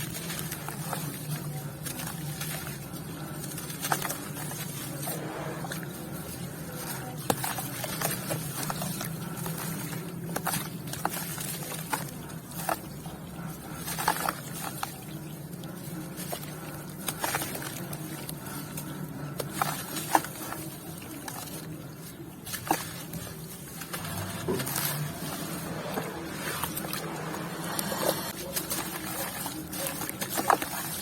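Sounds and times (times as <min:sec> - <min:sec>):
cement pieces crunching: 0:00.0 - 0:31.0
faint low hum: 0:00.0 - 0:31.0.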